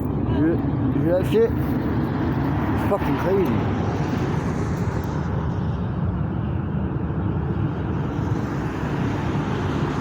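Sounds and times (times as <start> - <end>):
deep rushing roar: 0.0 - 10.0.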